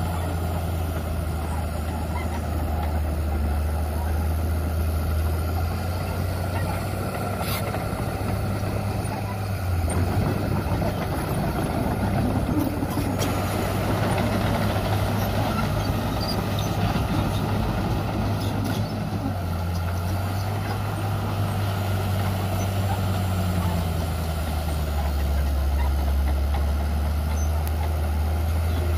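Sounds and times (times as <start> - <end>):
bulldozer diesel engine running: 0.0 - 28.9.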